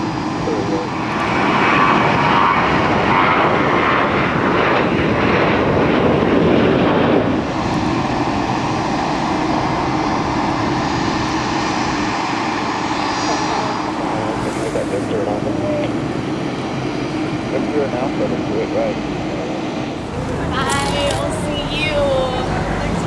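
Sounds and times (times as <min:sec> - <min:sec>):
aircraft engines running: 0:00.0 - 0:23.0.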